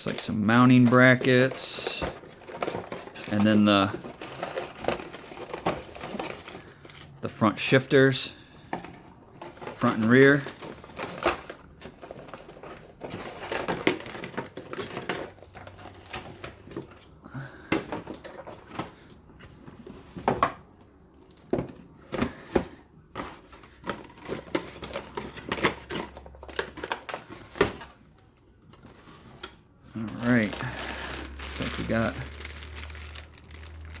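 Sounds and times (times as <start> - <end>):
packaging rustling: 0.0 - 34.0.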